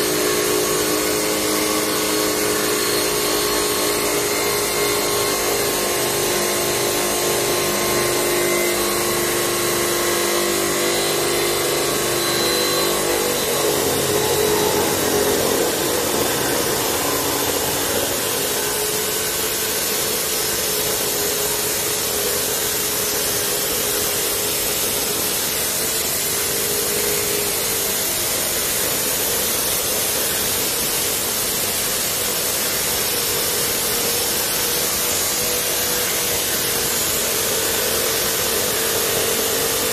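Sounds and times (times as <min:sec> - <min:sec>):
cut-off saw grinding steel: 0:00.0 - 0:39.9.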